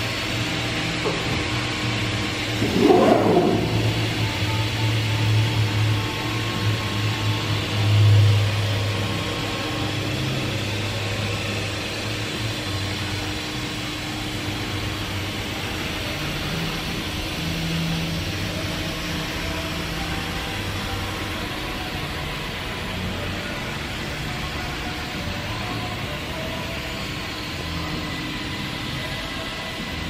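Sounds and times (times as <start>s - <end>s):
machinery hum and rush: 0.0s - 30.0s.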